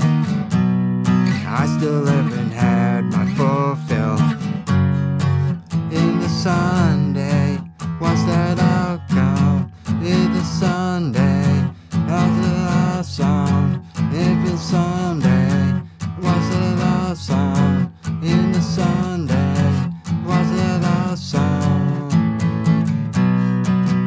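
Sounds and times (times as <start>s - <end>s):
acoustic guitar strumming: 0.0s - 24.0s
sliding guitar melody: 0.0s - 24.0s.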